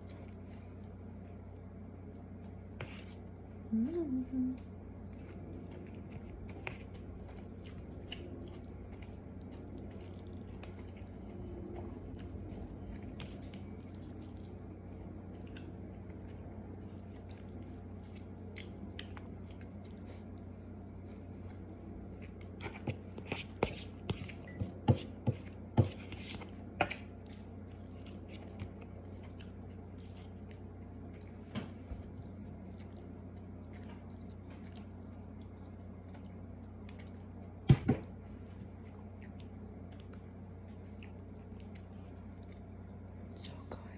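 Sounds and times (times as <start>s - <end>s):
steady low hum: 0.0s - 43.9s
mouth chewing food: 5.0s - 20.6s, 21.5s - 37.6s, 38.3s - 43.4s.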